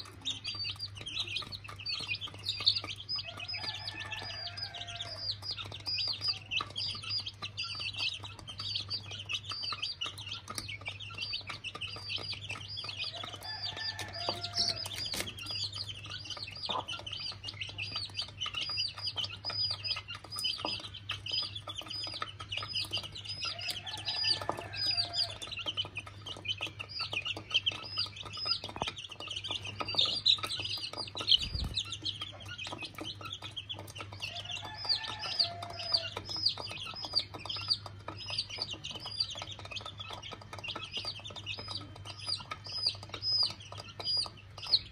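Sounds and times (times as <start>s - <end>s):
beaks tapping on feed dish: 0.0s - 44.9s
chicks peeping: 0.0s - 44.9s
hen clucking: 0.0s - 44.9s.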